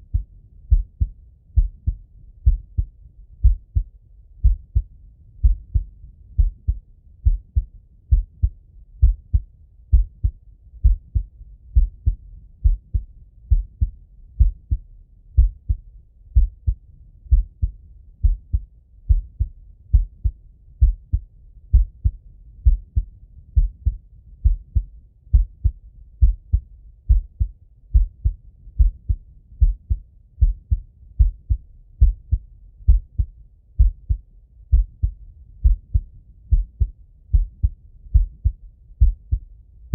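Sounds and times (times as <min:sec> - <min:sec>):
heartbeat through stethoscope: 0:00.0 - 0:15.8, 0:16.4 - 0:39.5.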